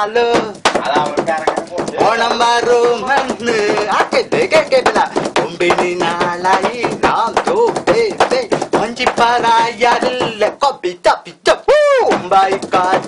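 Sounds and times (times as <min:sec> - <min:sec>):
sharp percussive clicks: 0:00.0 - 0:10.7, 0:12.1 - 0:13.0
man vocalizing in sing-song: 0:00.0 - 0:13.0.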